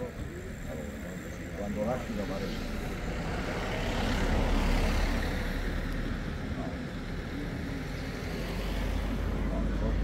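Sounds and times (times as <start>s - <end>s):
motor vehicle rumble: 0.0s - 10.0s
road noise: 0.0s - 10.0s.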